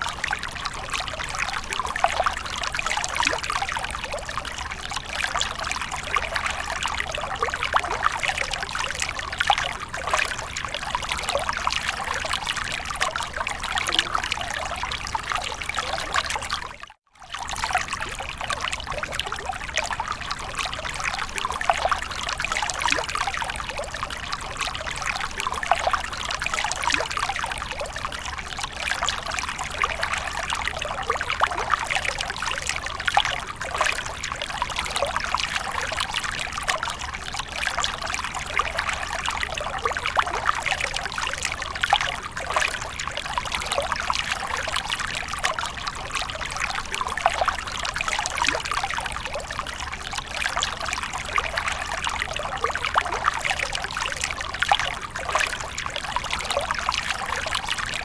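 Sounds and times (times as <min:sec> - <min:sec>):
water pouring and splashing: 0:00.0 - 0:58.0.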